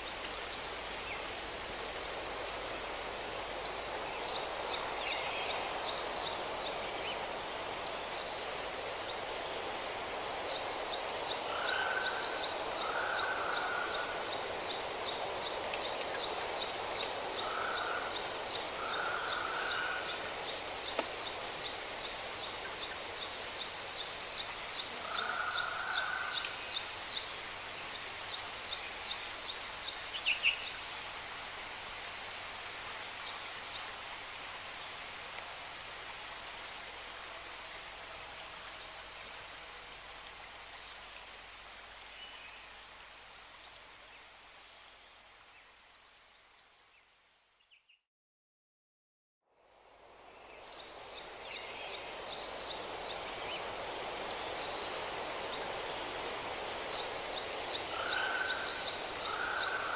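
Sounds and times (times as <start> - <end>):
steady outdoor hiss: 0.0 - 48.0, 49.4 - 59.9.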